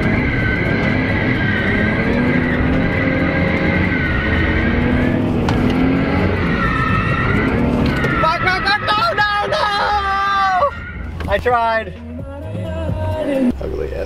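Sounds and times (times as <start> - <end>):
tyres squealing: 0.0 - 12.0
car engine revving: 0.0 - 14.0.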